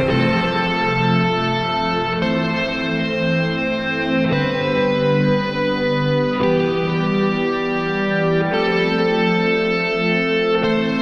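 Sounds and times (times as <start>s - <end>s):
background music chords: 0.0s - 11.0s.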